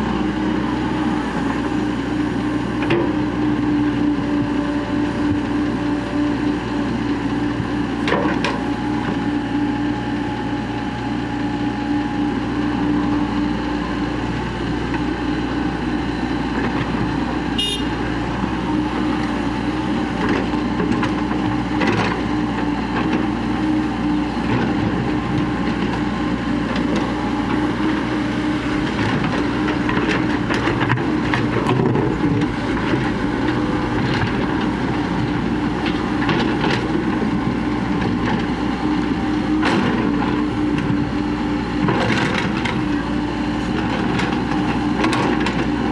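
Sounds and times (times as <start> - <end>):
excavator diesel engine under load: 0.0 - 45.9.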